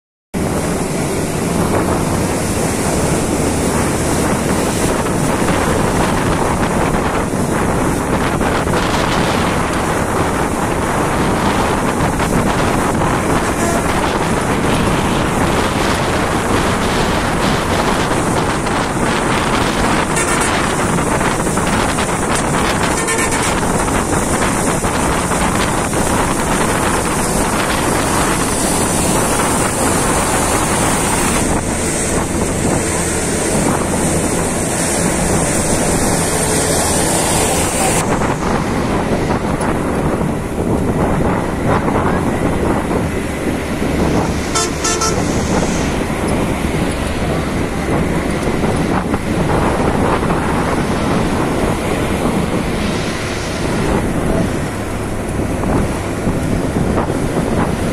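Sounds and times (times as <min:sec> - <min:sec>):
bus road and engine noise: 0:00.3 - 0:57.9
wind rushing over microphone: 0:00.4 - 0:57.9.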